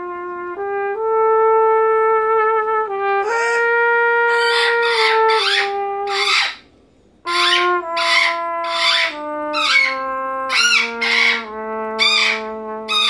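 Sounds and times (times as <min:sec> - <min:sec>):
solo trumpet: 0:00.0 - 0:13.0.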